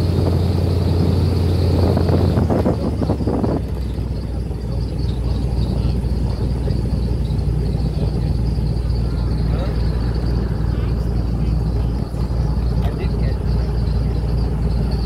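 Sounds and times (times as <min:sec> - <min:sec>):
airboat engine and propeller drone: 0:00.0 - 0:15.0.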